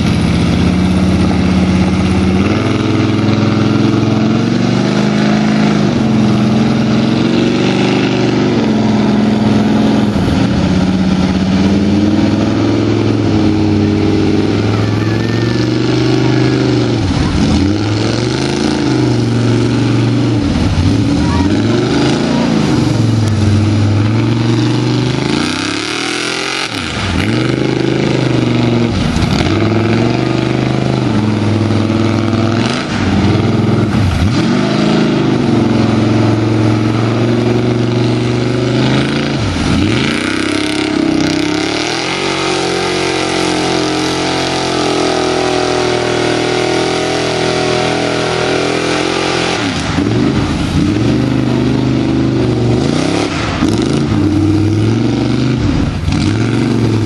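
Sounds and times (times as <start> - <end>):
tires churning through mud: 0.0 - 57.0
truck engine revving high: 0.0 - 57.0.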